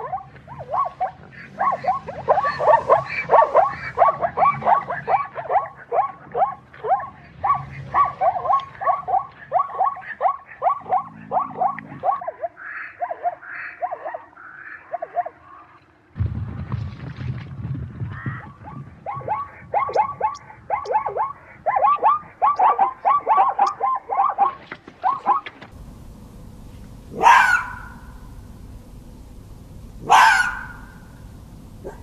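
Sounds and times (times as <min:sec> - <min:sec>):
zebra yelping barks: 0:00.0 - 0:15.8, 0:18.6 - 0:25.6, 0:26.9 - 0:29.2, 0:29.9 - 0:32.0.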